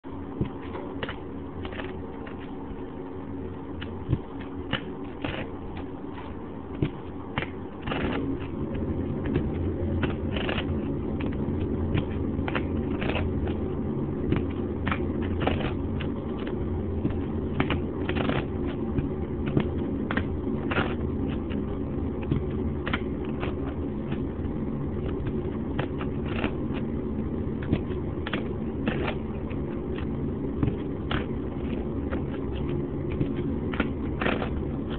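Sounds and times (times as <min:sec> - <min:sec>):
low rumble: 0:00.1 - 0:34.9.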